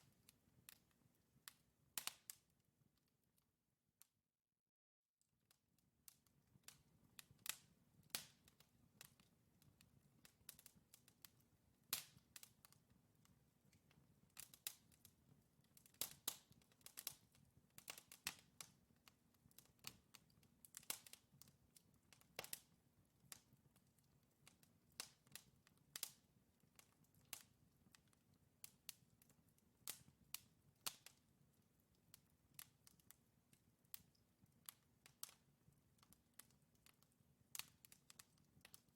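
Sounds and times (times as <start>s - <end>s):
logs crackling in fireplace: 0.0s - 2.9s, 6.1s - 38.9s.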